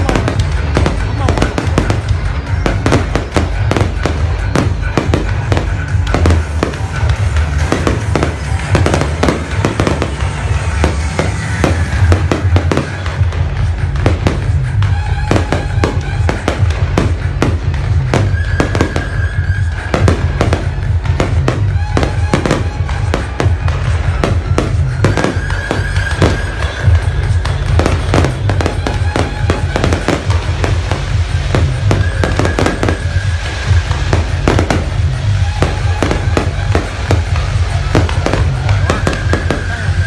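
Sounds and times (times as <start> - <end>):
fireworks bangs and crackles: 0.0 - 40.0
music playing: 0.0 - 40.0.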